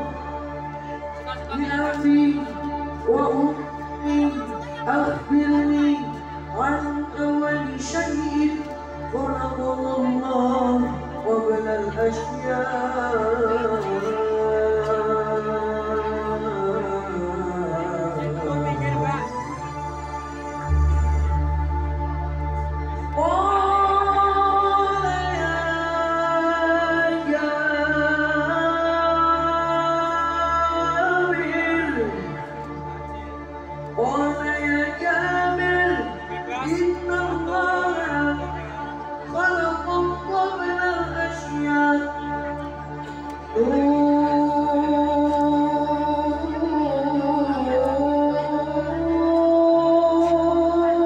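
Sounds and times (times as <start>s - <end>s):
young man singing melismatic notes: 0.0s - 51.0s.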